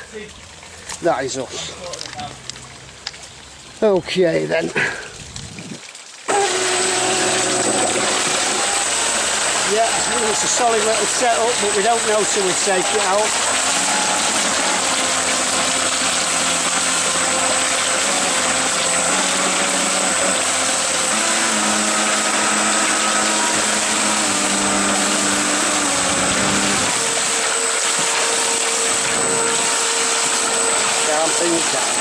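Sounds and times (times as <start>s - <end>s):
water jet churning: 0.0s - 32.0s
electric motor whine: 6.3s - 32.0s.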